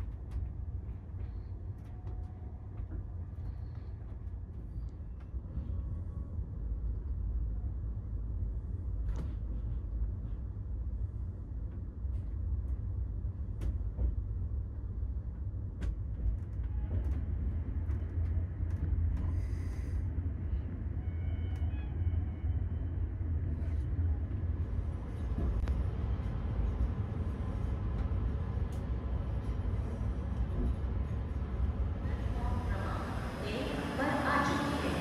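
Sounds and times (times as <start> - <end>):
train low rumble: 0.0 - 35.0.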